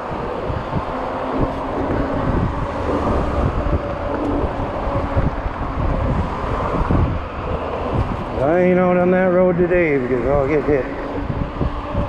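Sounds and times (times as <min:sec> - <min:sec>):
e-bike rolling on concrete: 0:00.0 - 0:12.0
wind noise on microphone: 0:00.0 - 0:12.0.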